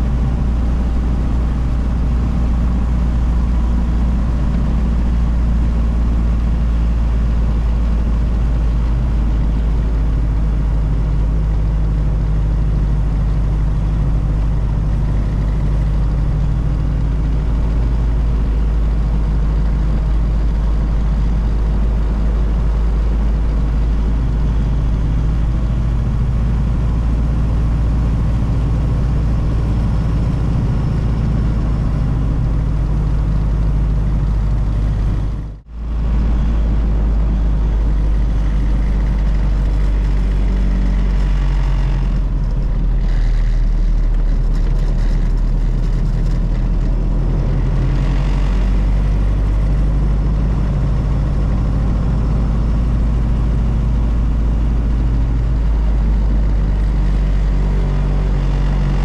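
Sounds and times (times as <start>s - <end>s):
car engine running: 0.0s - 59.0s
road rumble: 0.0s - 59.0s.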